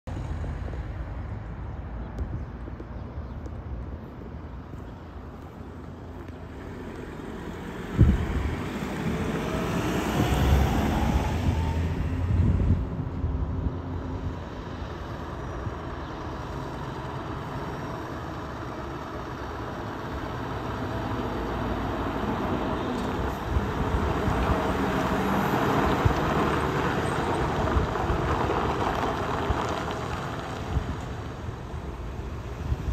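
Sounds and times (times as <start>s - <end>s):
truck diesel engine passing: 4.8s - 32.9s.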